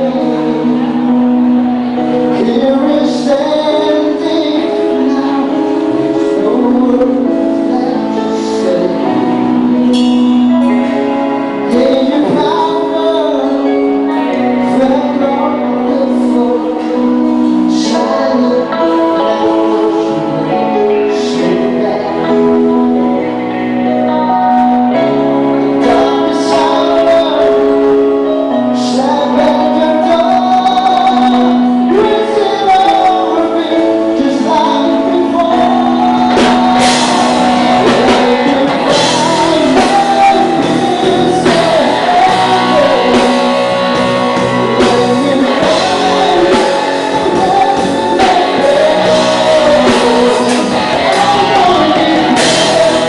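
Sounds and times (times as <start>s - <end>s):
live rock band playing: 0.0s - 53.0s
person singing: 0.0s - 53.0s.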